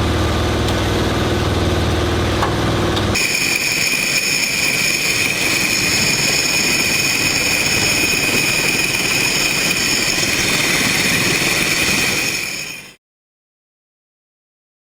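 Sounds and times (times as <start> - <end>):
machine humming: 0.0 - 12.8
high steady whine: 0.0 - 13.0.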